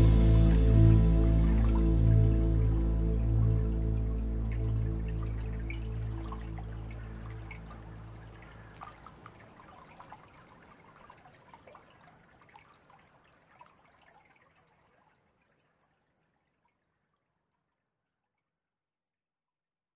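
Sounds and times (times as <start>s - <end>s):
faint water trickling: 0.0s - 18.4s.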